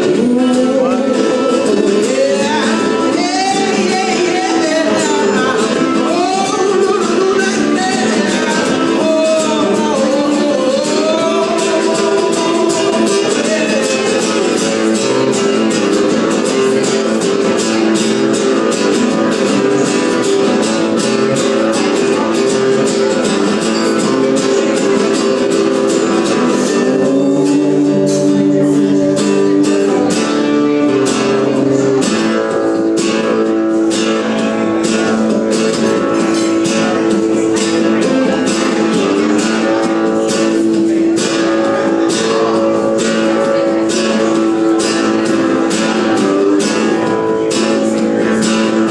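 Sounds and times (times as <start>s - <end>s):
acoustic guitars strumming: 0.0s - 48.9s.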